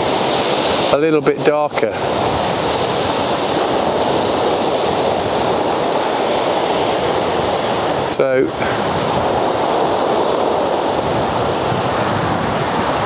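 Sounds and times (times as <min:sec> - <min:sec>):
surf on shingle beach: 0:00.0 - 0:13.0.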